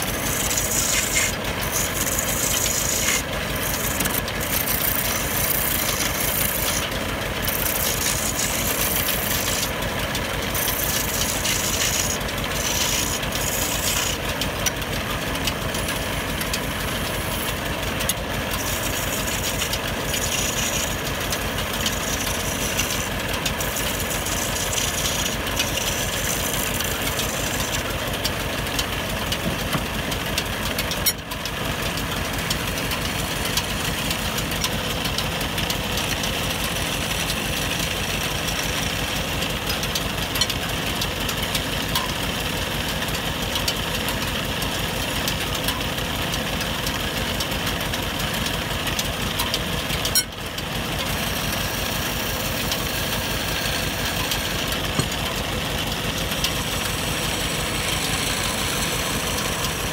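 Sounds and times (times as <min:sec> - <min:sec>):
chisel scraping spinning wood: 0:00.0 - 0:59.9
wood lathe running: 0:00.0 - 0:59.9.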